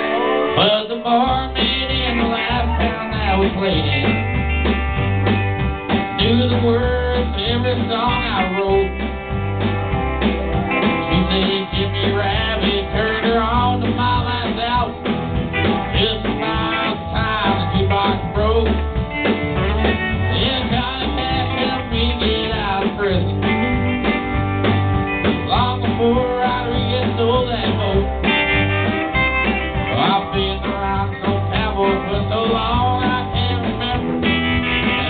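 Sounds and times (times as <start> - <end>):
country band playing: 0.0 - 35.0.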